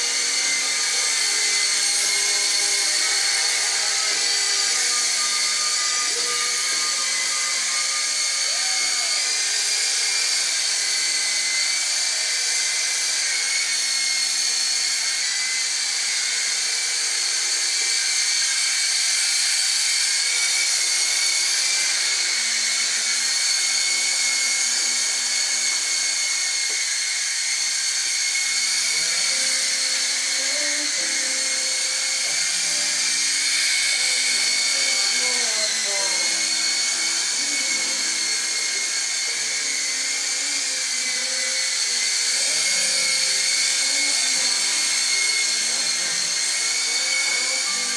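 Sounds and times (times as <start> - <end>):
toy helicopter rotors whirring: 0.0 - 47.9.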